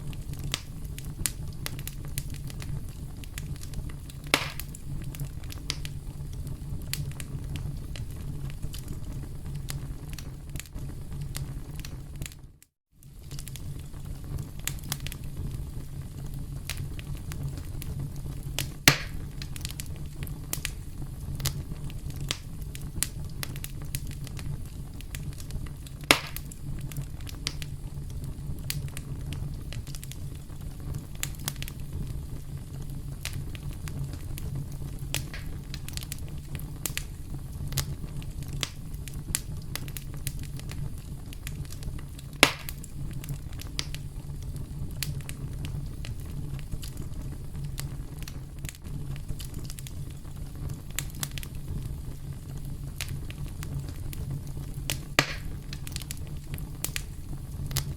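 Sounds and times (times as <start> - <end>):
campfire crackling: 0.0 - 57.9
loud fire pops: 0.0 - 57.9.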